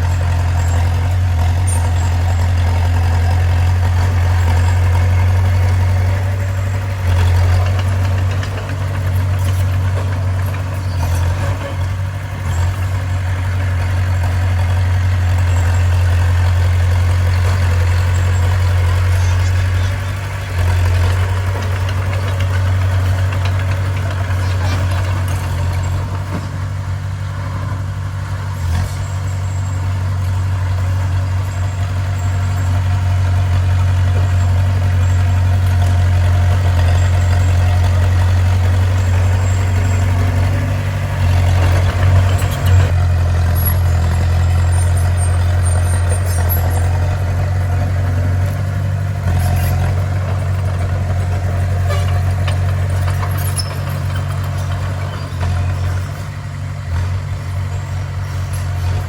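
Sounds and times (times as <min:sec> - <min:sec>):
bulldozer engine droning: 0:00.0 - 0:59.0.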